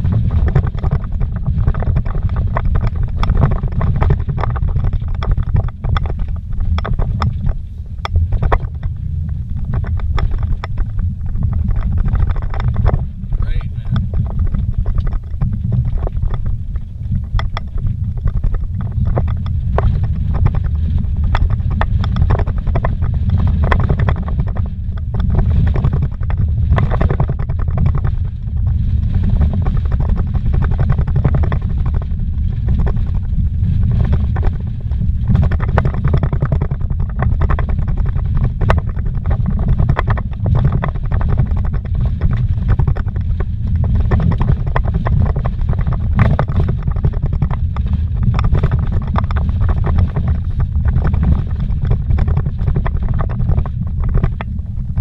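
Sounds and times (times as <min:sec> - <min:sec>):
engine and tyres rumbling: 0:00.0 - 0:55.0
rattles and knocks: 0:00.0 - 0:55.0.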